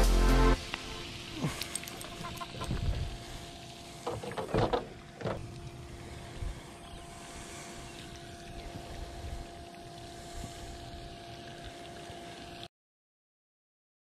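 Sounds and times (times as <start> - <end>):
faint steady hum: 0.0 - 12.7.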